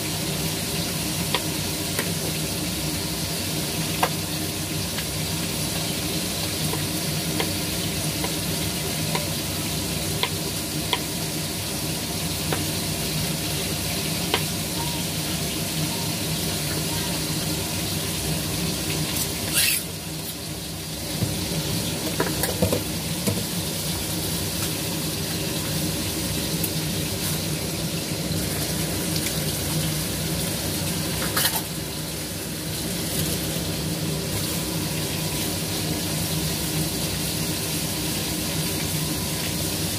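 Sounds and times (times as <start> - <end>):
oil sizzling in a frying pan: 0.0 - 39.9.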